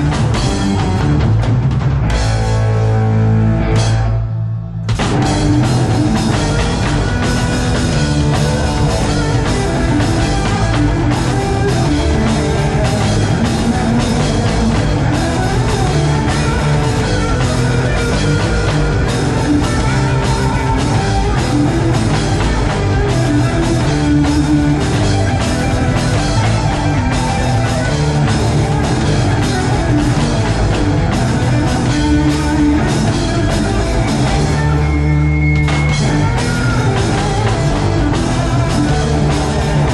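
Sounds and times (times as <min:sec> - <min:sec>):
drums keeping a steady beat: 0:00.0 - 0:03.1, 0:03.7 - 0:39.9
rock band playing live: 0:00.0 - 0:39.9.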